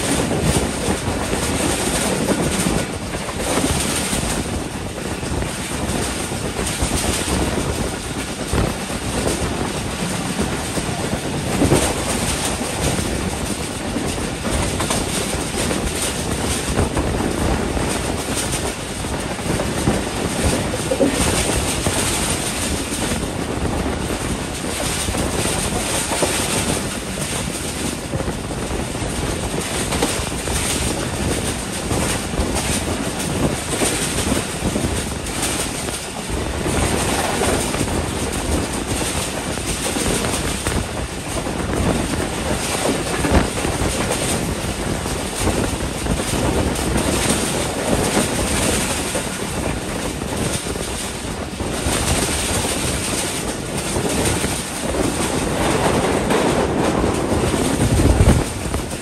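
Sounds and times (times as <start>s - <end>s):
train wheel and track noise: 0.0s - 59.0s
wind rushing: 0.0s - 59.0s.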